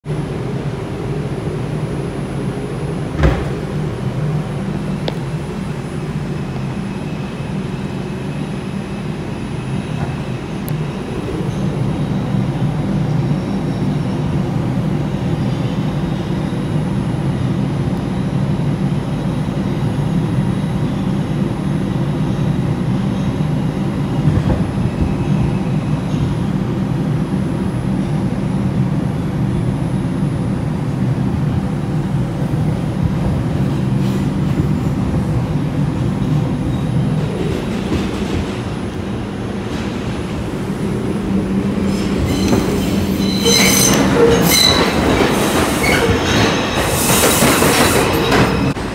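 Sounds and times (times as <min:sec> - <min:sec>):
subway car hum and rumble: 0:00.0 - 0:48.9.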